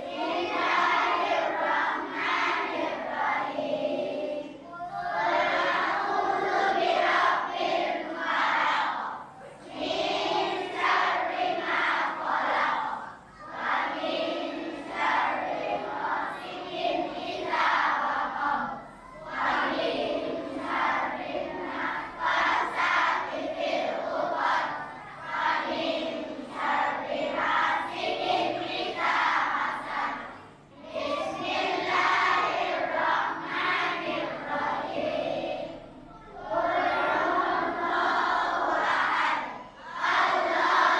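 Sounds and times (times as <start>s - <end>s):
children chanting in unison: 0.0s - 40.9s.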